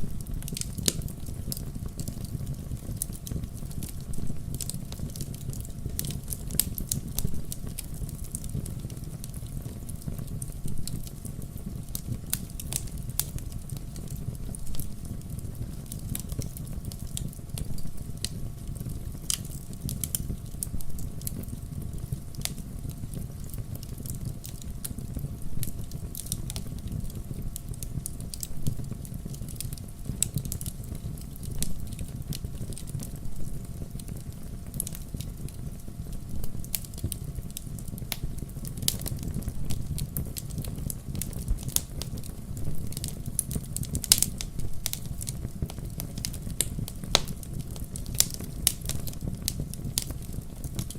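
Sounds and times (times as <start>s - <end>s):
low rumble of flames: 0.0s - 50.9s
wood fire crackling: 0.0s - 50.9s.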